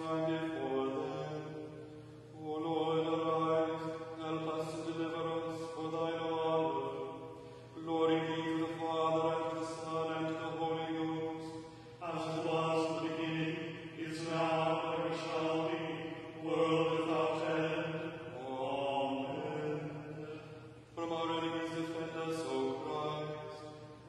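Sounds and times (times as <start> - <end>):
person chanting a prayer: 0.0 - 24.0.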